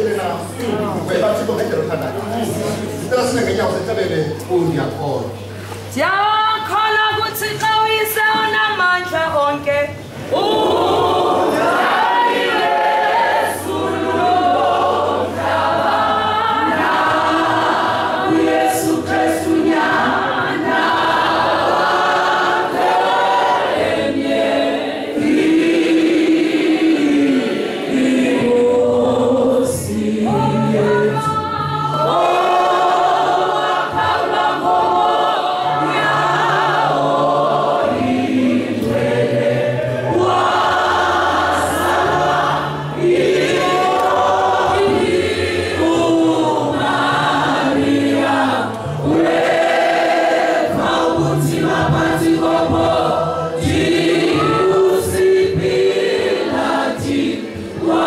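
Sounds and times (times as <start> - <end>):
congregation singing a hymn: 10.1 - 58.0.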